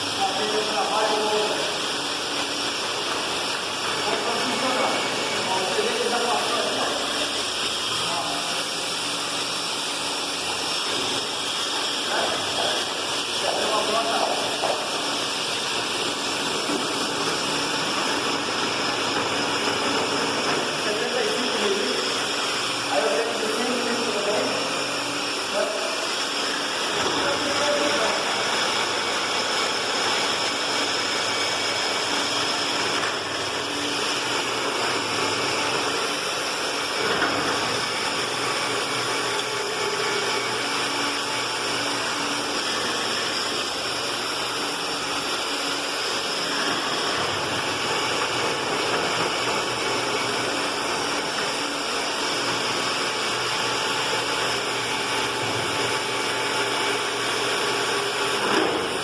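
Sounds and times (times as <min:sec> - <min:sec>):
drill boring into concrete: 0:00.0 - 0:59.0.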